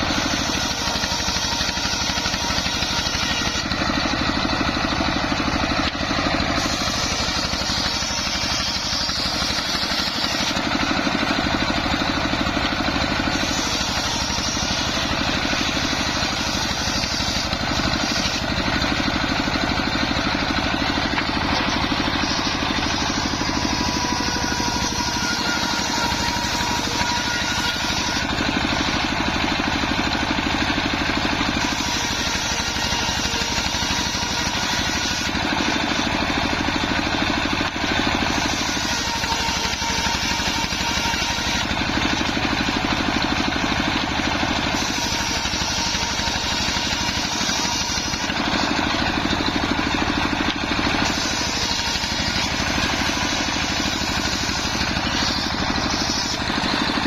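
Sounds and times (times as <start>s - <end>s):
circular sawmill running: 0.0s - 57.0s.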